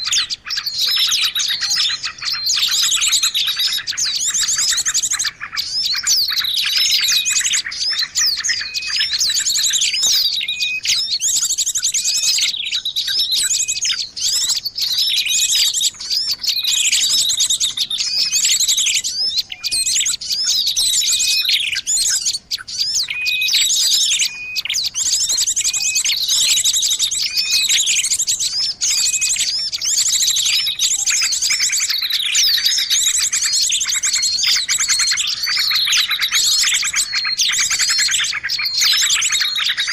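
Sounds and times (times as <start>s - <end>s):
recorded songbird chirping: 0.0s - 39.9s.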